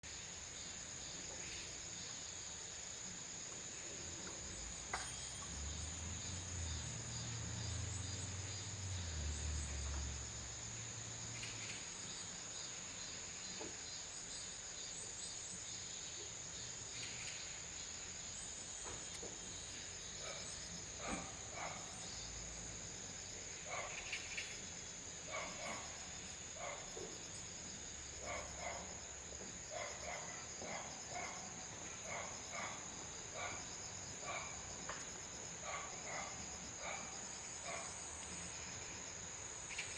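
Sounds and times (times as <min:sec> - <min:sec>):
faint steady hiss: 0:00.0 - 0:39.9
insects trilling: 0:00.0 - 0:39.9.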